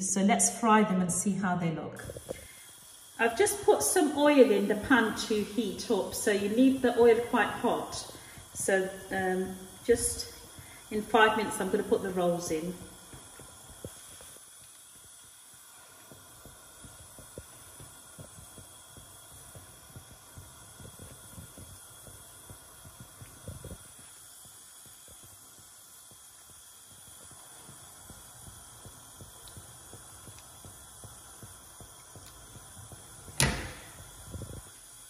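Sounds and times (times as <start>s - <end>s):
low steady hiss: 0.0s - 35.0s
crackling and popping in hot oil: 2.0s - 35.0s.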